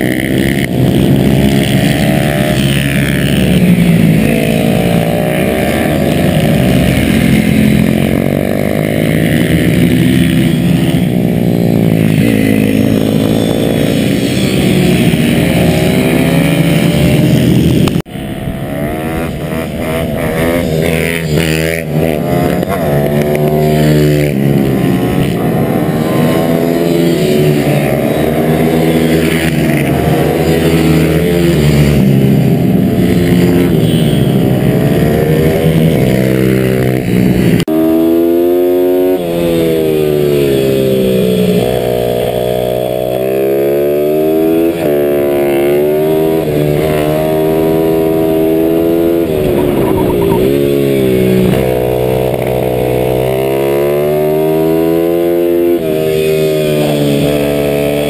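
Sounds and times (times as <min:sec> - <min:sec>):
small motorcycle engine revving: 0:00.0 - 0:58.0.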